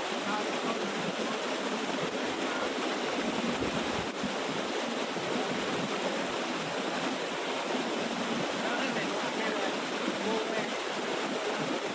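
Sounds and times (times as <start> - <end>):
waterfall rushing and splashing: 0.0 - 11.9.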